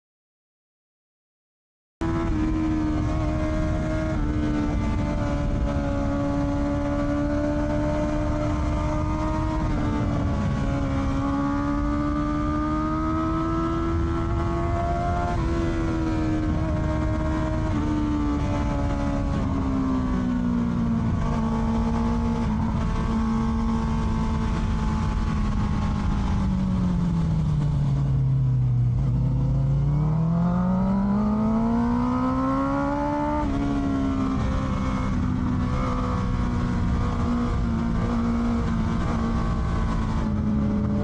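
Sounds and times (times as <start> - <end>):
motorcycle engine under way: 2.0 - 41.0.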